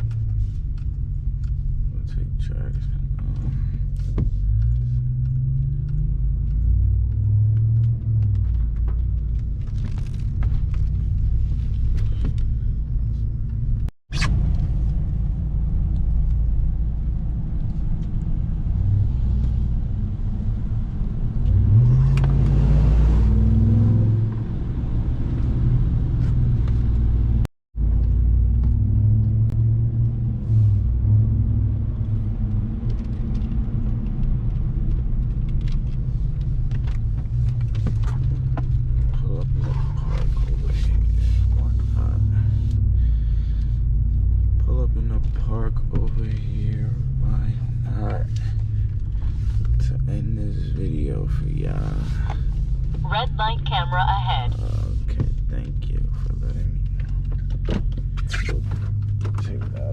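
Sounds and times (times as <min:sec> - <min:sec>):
truck engine accelerating: 0:00.0 - 0:11.2, 0:12.1 - 0:59.9.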